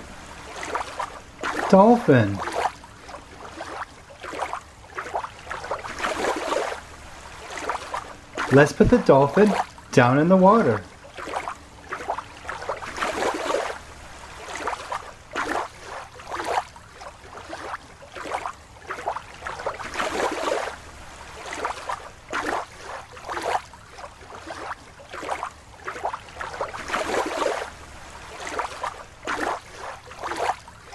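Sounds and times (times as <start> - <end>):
water splashing and sloshing: 0.0 - 30.9.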